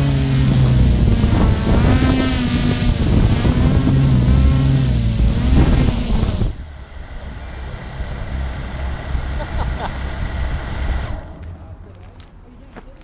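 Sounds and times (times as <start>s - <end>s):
drone motors whirring: 0.0s - 12.6s.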